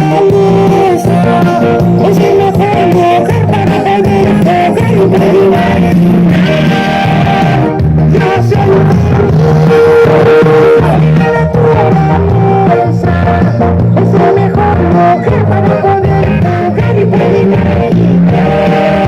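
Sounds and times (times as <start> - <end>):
guitar-led band with steady beat: 0.0 - 19.0
person singing: 0.0 - 19.0.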